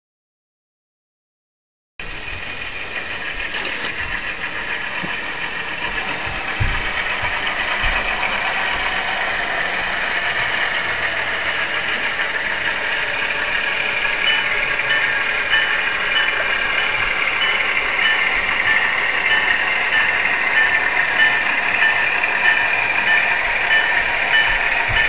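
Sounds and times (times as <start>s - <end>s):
model diesel locomotive engine: 2.0s - 25.0s.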